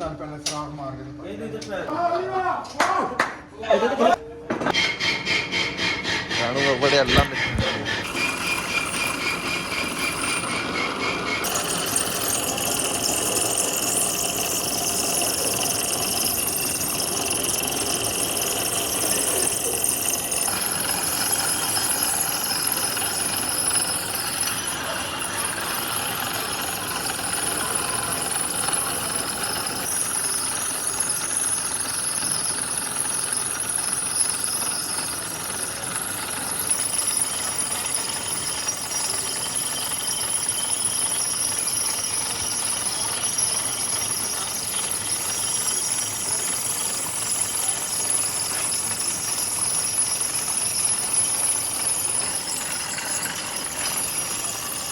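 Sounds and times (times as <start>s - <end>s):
machine tool rasping metal: 4.7s - 54.9s.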